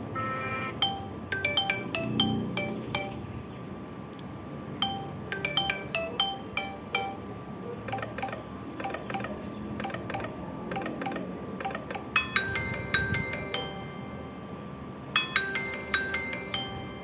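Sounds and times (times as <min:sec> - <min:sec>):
phone ringtone chime melody: 0:00.2 - 0:03.2, 0:04.8 - 0:07.2, 0:07.9 - 0:17.0.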